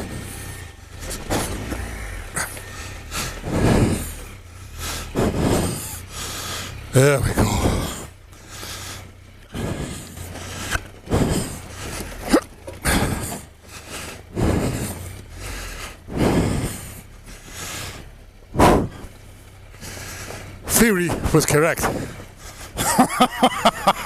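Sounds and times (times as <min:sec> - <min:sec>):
person breathing hard: 0:00.0 - 0:19.2, 0:19.8 - 0:20.8, 0:21.8 - 0:24.0.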